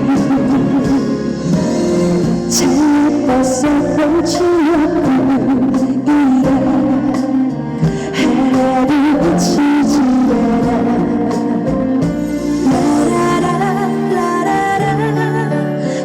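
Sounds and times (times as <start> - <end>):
instrumental accompaniment: 0.0 - 16.0
woman singing a slow ballad: 0.0 - 16.0.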